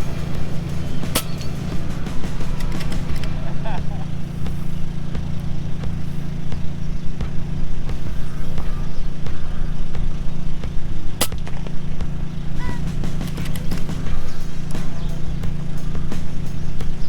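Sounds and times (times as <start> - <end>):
air rifle firing: 0.0 - 17.0
steady low drone: 0.0 - 17.0.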